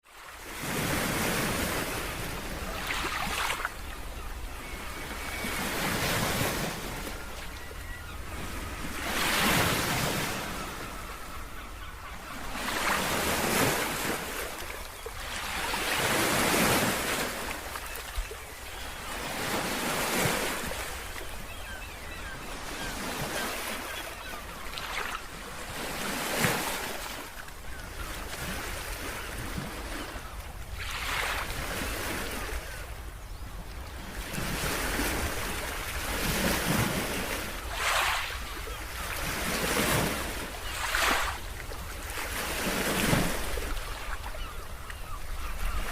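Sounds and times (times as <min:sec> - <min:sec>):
sea waves breaking: 0:00.2 - 0:33.0, 0:33.9 - 0:45.9.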